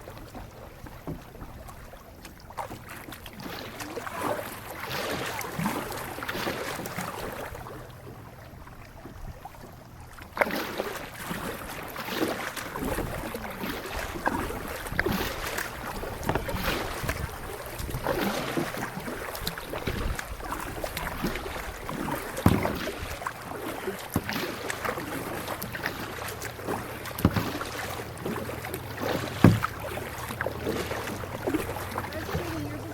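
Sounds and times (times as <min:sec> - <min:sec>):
paddle splashing water: 0:00.0 - 0:32.9
paddle knocks: 0:00.1 - 0:07.5, 0:10.2 - 0:32.9.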